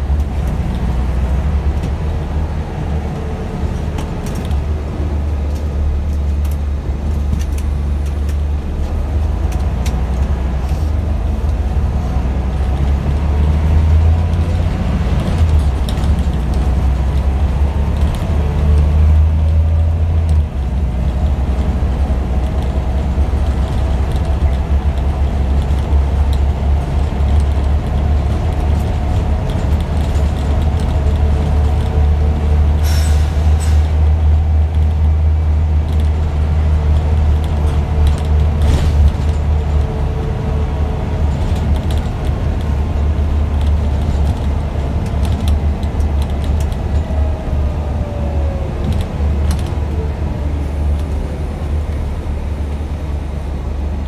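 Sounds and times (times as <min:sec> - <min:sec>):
bus engine drone: 0:00.0 - 0:54.0
engine whine: 0:00.0 - 0:54.0.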